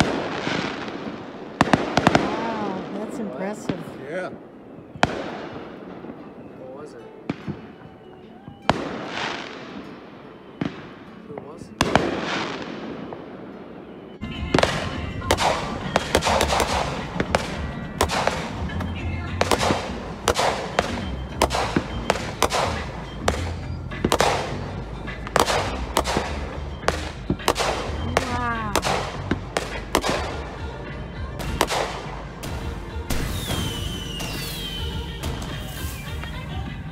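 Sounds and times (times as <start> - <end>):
fireworks bangs: 0.0 - 36.9.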